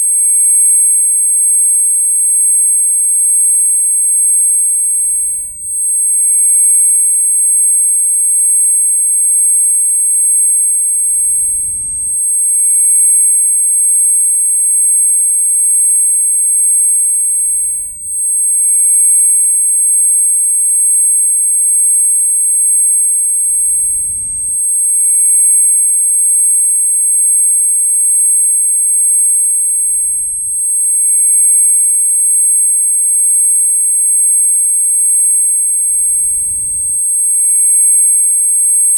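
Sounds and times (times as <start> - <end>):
high-pitched ringing tone: 0.0 - 38.9.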